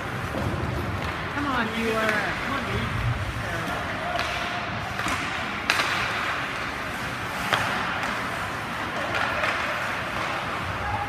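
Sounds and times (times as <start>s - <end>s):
hockey stick clacking puck: 0.0s - 2.8s, 3.6s - 11.0s
rink background noise: 0.0s - 11.0s.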